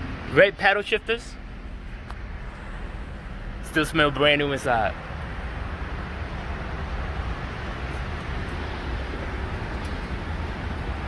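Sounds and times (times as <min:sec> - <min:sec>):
vehicles rumbling: 0:00.0 - 0:11.0.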